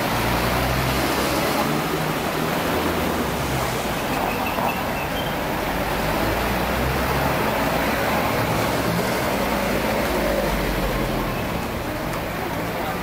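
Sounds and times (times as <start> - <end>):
cars driving past: 0.0 - 13.0
city street traffic: 0.0 - 13.0.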